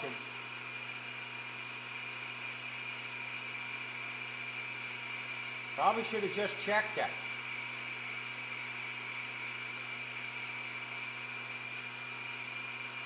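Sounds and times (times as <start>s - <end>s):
metal lathe humming and whining: 0.0s - 13.0s.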